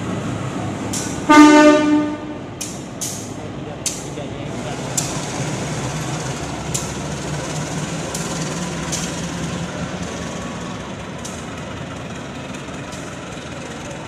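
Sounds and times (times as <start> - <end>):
diesel locomotive engine drone: 0.0 - 14.0
wheels clicking on rail: 2.6 - 14.0.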